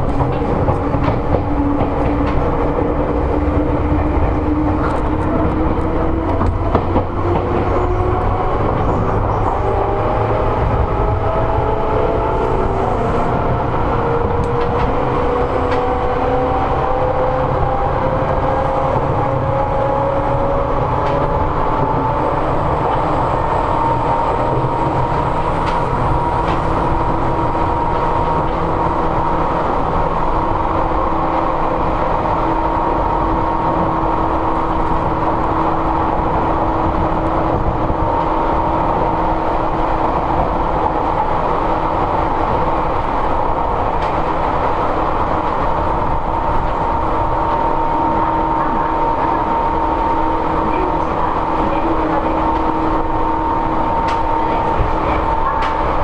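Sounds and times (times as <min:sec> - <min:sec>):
rumble of train wheels: 0:00.0 - 0:56.0.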